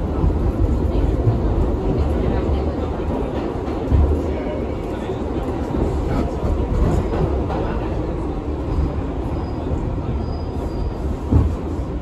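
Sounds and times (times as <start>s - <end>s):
subway car rumbling on rails: 0.0s - 12.0s.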